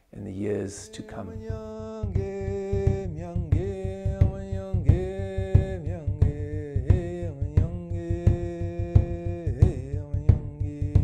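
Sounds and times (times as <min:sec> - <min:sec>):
steady drum beat: 0:01.1 - 0:11.0.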